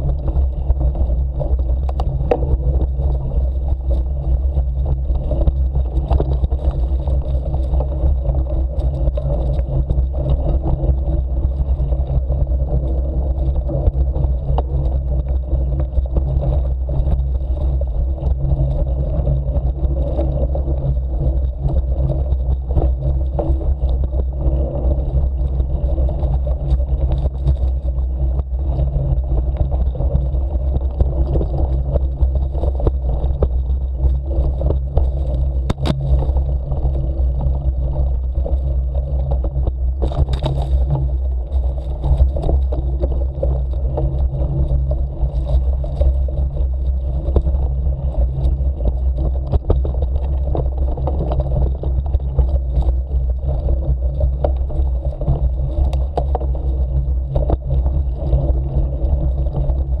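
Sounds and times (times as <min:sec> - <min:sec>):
bicycle tyres rumbling on dirt: 0:00.0 - 1:00.0
wind on microphone: 0:00.0 - 1:00.0.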